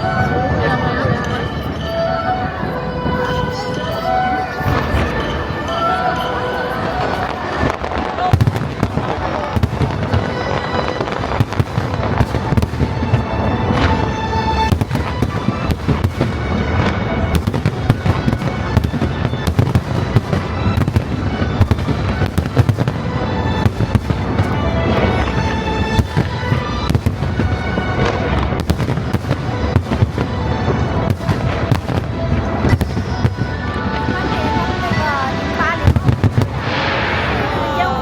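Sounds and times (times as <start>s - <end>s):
fireworks banging and crackling: 0.0s - 38.0s
music playing: 0.0s - 38.0s.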